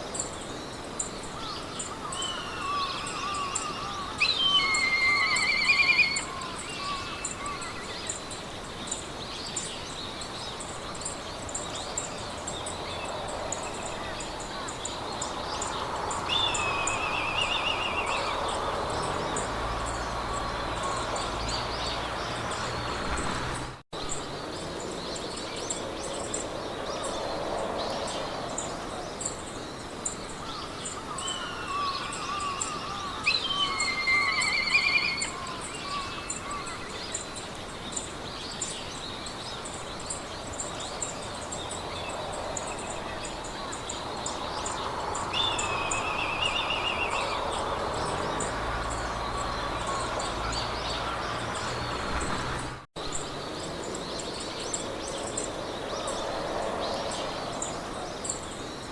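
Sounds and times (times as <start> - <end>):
songbirds singing: 0.0 - 58.9
wind in grass: 0.0 - 58.9.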